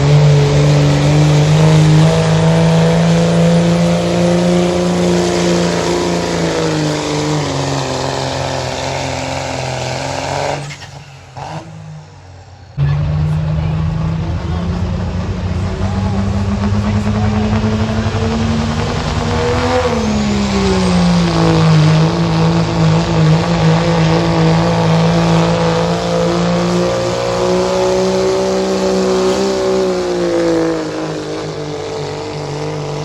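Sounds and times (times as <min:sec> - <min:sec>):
diesel truck engine at high revs: 0:00.0 - 0:33.0.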